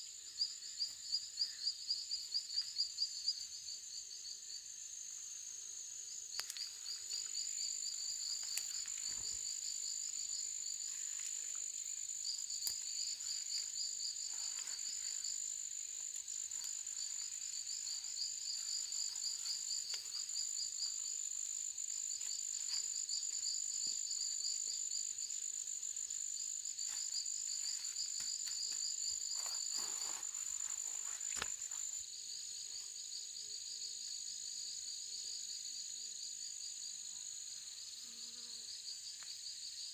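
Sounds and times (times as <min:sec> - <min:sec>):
insect high-pitched whine: 0:00.0 - 0:39.9
insect chirping in pulsed bouts: 0:00.1 - 0:32.6.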